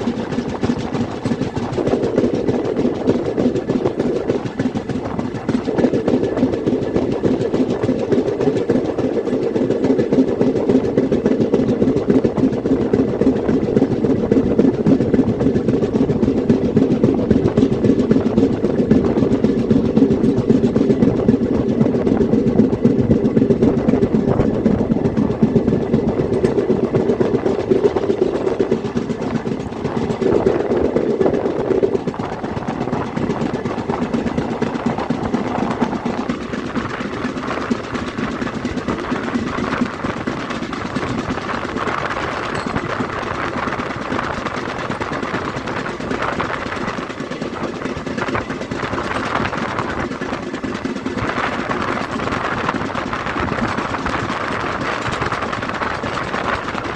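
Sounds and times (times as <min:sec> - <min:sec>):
train rumbling on track: 0:00.0 - 0:56.9.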